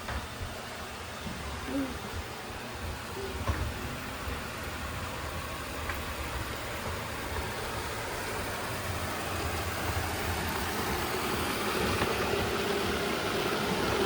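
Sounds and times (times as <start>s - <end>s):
robot vacuum cleaner whirring: 1.3s - 14.0s.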